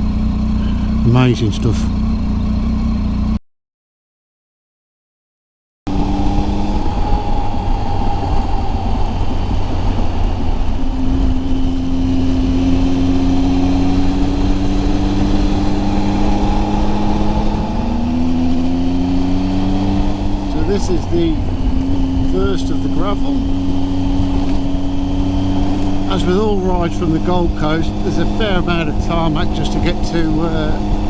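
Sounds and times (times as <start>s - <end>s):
motorcycle engine running: 0.0s - 3.4s, 5.9s - 31.0s
steady low rumble: 5.9s - 31.0s.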